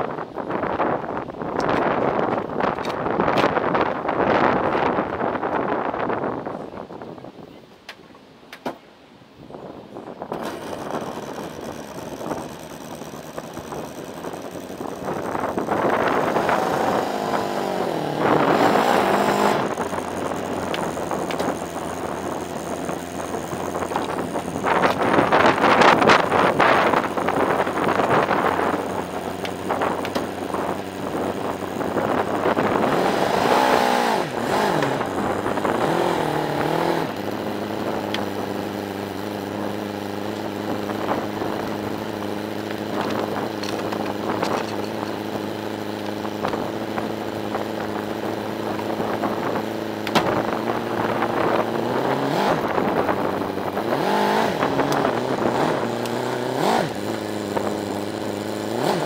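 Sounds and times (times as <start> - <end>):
van engine idling and revving: 10.3 - 59.0.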